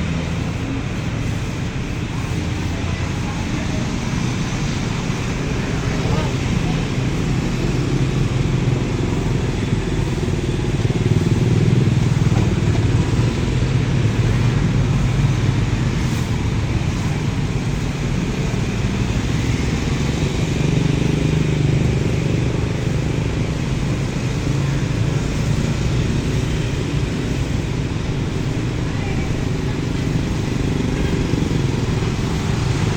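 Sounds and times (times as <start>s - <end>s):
vehicle engines humming: 0.0s - 32.9s.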